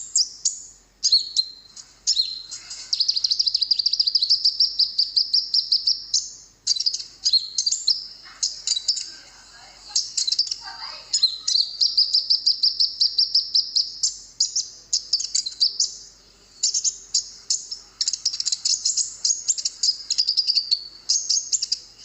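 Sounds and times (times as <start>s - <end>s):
songbird chirping trills: 0.0s - 22.0s.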